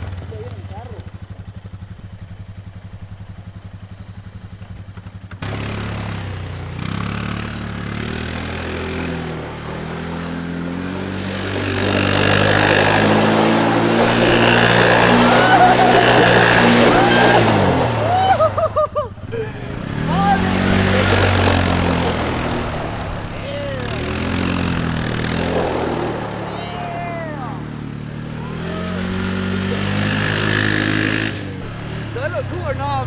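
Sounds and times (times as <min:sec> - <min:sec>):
atv engine: 0:00.0 - 0:33.0.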